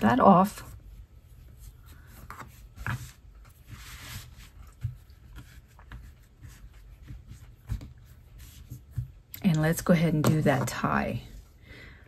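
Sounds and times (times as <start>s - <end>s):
hands rubbing yarn: 0.4s - 10.6s.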